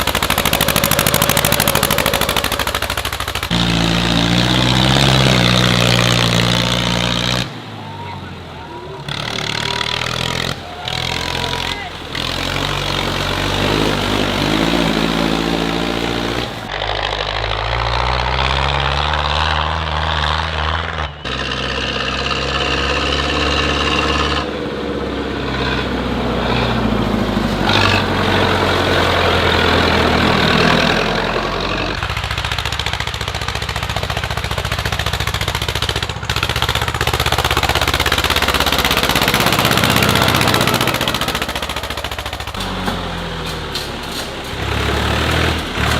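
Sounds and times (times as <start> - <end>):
tractor engines revving: 0.0 - 45.9.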